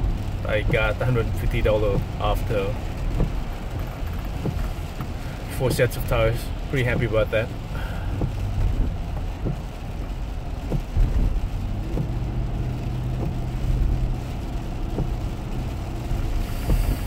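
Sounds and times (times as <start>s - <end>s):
engine hum: 0.0s - 17.0s
tyres hissing on wet road: 0.0s - 17.0s.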